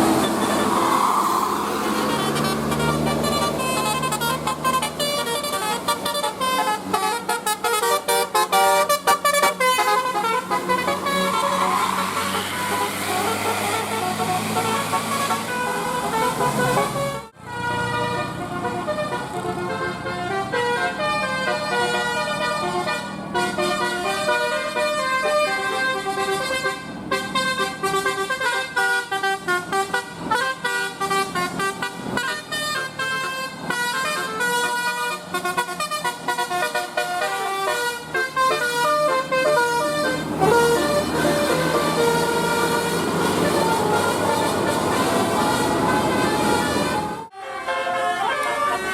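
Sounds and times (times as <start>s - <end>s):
multi-tone musical bus horn: 0.0s - 48.9s.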